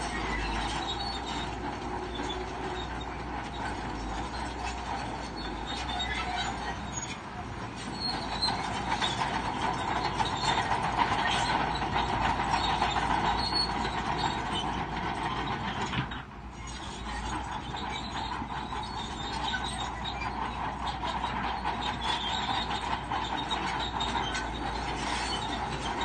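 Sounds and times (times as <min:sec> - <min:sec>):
bulldozer running: 0:00.0 - 0:26.0
steel tracks clanking and squealing: 0:00.0 - 0:26.0.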